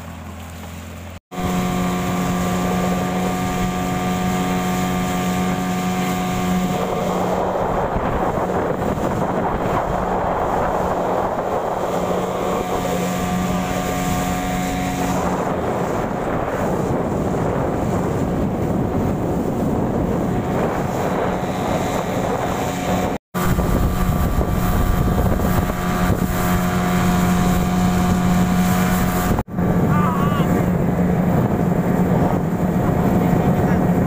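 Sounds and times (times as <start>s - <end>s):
motorboat engine running: 0.0s - 34.0s
wind buffeting microphone: 1.3s - 34.0s.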